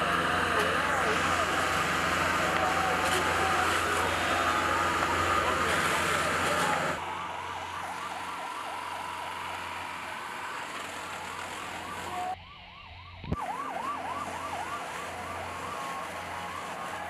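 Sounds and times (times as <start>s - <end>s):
siren yelping: 2.4s - 17.0s.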